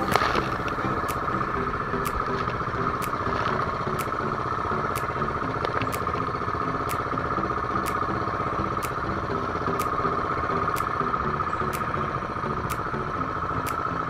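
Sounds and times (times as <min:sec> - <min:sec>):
faint sharp ticks: 0:00.0 - 0:14.0
small boat engine running: 0:00.0 - 0:14.0.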